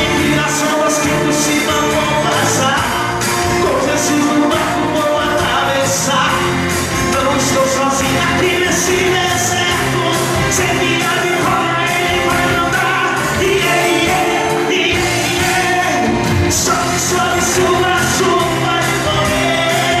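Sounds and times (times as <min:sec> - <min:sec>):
gospel pop song with vocals: 0:00.0 - 0:20.0.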